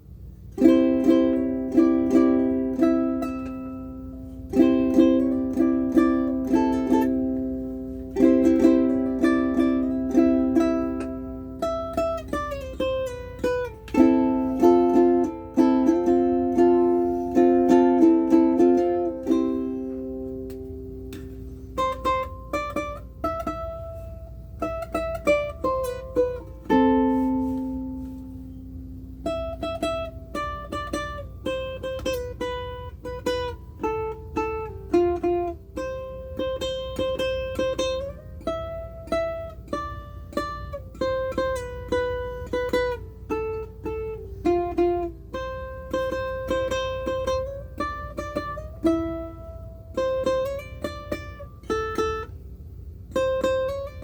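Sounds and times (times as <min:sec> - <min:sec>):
ukulele playing: 0:00.0 - 0:54.0.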